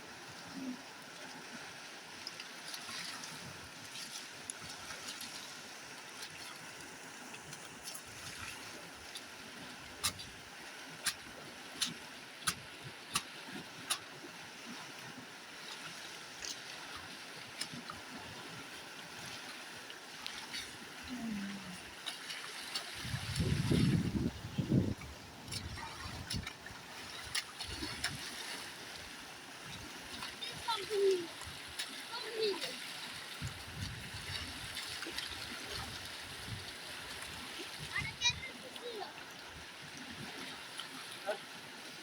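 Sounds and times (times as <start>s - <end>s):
water splashing and running: 0.0s - 42.0s.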